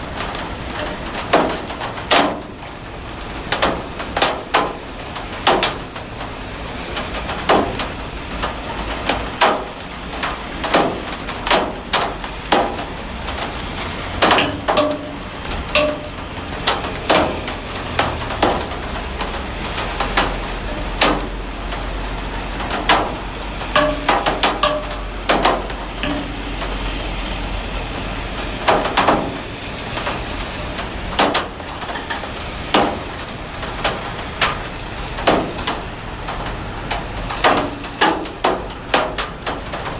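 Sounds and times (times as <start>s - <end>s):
heavy rain: 0.0s - 39.9s
raindrops knocking on hard surface: 0.0s - 39.9s.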